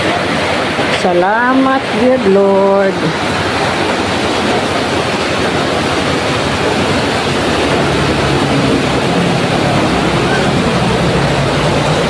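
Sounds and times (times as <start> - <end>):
low hum: 0.0 - 12.0
steady rain falling: 0.0 - 12.0.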